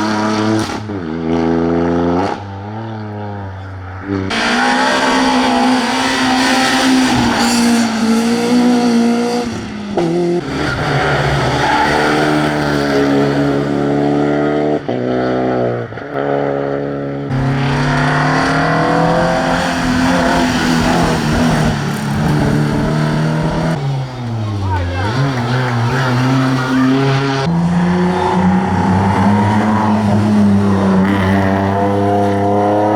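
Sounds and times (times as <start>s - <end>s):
rally car engines revving past: 0.0s - 32.9s.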